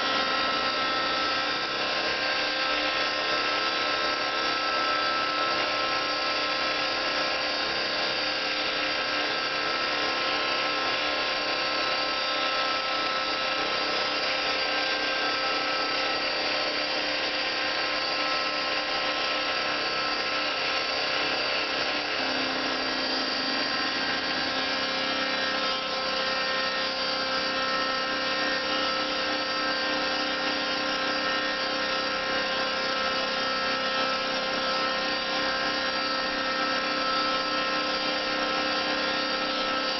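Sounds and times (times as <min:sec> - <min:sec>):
cnc mill motors whirring: 0:00.0 - 0:39.9.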